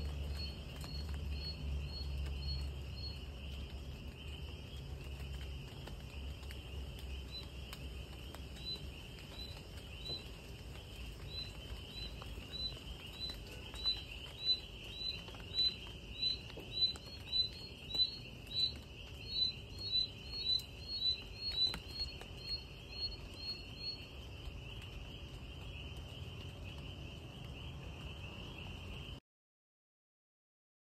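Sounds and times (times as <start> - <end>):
insect chirping: 0.0 - 29.2
insects trilling: 0.0 - 29.2
light rain dripping: 0.0 - 29.2.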